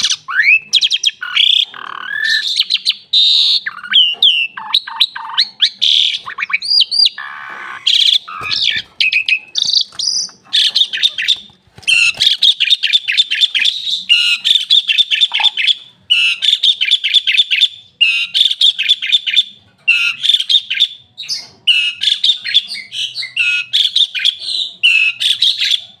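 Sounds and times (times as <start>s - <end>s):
starling singing: 0.0s - 26.0s.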